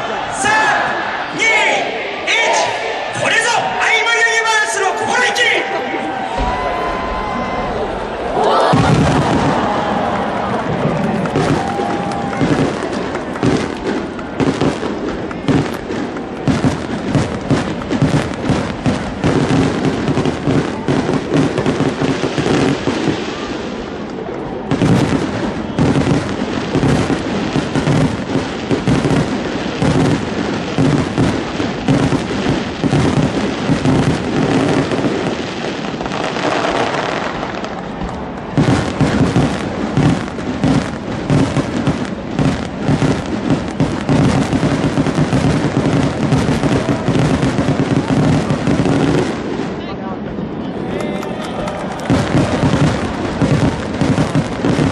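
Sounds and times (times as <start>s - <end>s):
fireworks bangs and booms: 0.0s - 54.9s.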